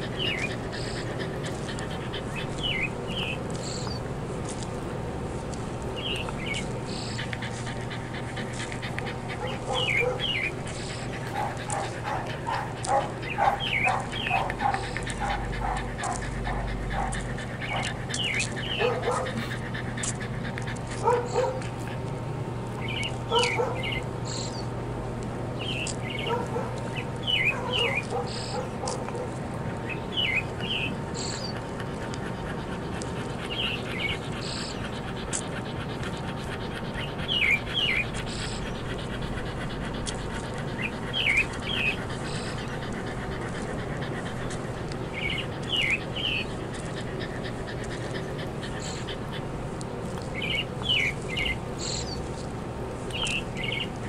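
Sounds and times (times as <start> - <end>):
dog whimpering and whining: 0.0 - 4.1, 6.0 - 22.0, 25.6 - 54.0
outdoor background noise: 0.0 - 54.0.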